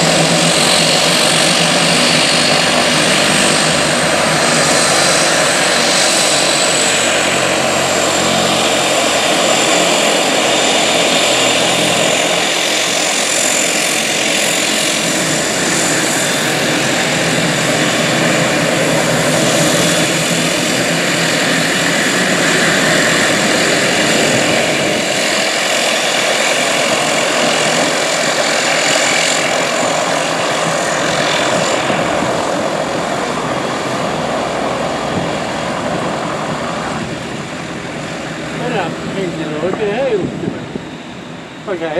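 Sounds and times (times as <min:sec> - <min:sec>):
high turbine whine: 0:00.0 - 0:41.9
propeller drone: 0:00.0 - 0:41.9.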